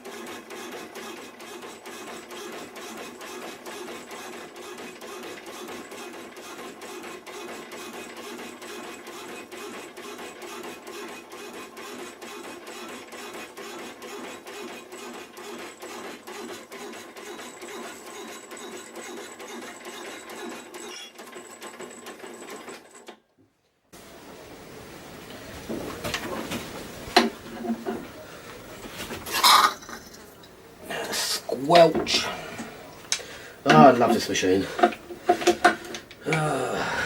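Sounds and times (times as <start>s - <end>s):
power saw cutting: 0.0s - 21.4s, 24.0s - 36.2s.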